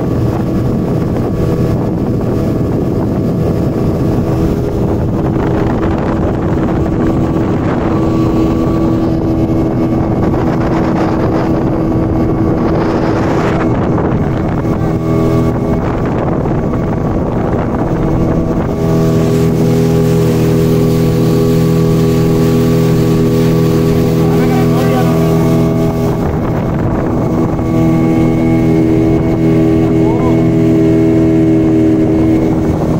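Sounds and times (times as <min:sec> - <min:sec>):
motorboat engine running: 0:00.0 - 0:32.9
wind noise on microphone: 0:00.0 - 0:32.9.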